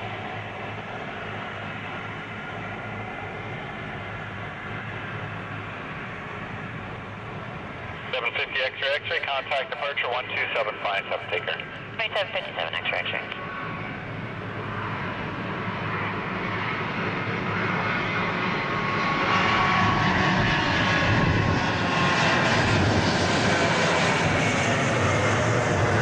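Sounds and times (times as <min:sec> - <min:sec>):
airliner jet engines: 0:00.0 - 0:26.0.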